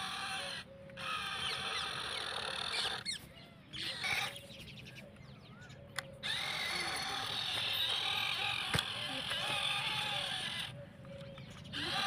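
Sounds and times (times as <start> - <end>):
toy motor and gearbox whining: 0.0 - 4.7, 5.9 - 12.0.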